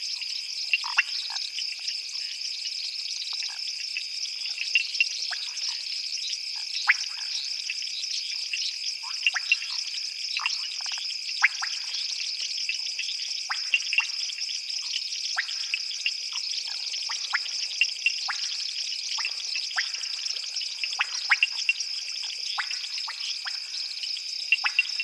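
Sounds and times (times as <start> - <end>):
short frog calls: 0.7 - 1.6, 4.5 - 25.0.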